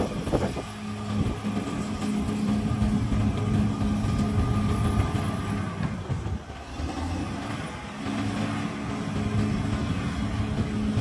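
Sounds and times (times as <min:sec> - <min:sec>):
bulldozer diesel engine drone: 0:00.0 - 0:11.0
high whine: 0:00.0 - 0:11.0.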